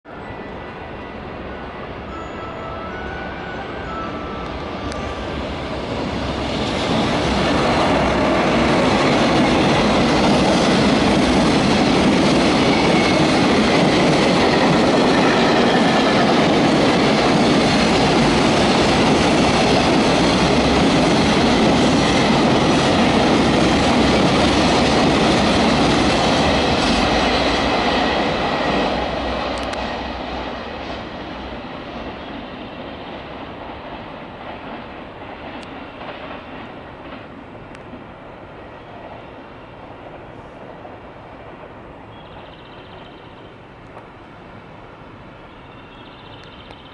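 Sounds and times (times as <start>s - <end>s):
freight train passing: 0.1s - 46.9s
train wheels rumbling on rails: 3.6s - 46.9s.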